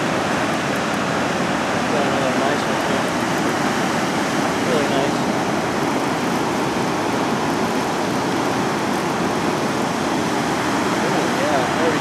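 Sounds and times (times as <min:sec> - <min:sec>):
rushing water roar: 0:00.0 - 0:12.0.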